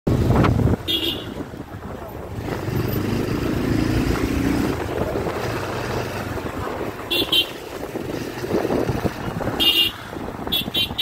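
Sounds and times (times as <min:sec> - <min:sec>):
wind rumble on microphone: 0:00.1 - 0:11.0.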